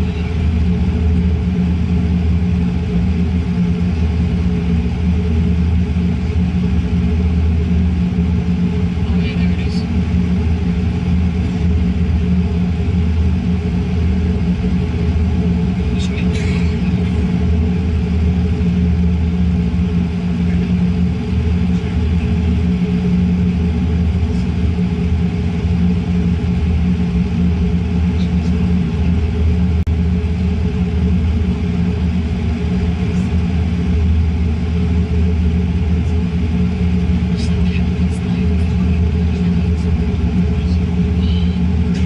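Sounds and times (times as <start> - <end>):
airliner cabin engine and airflow rumble: 0.0 - 42.0.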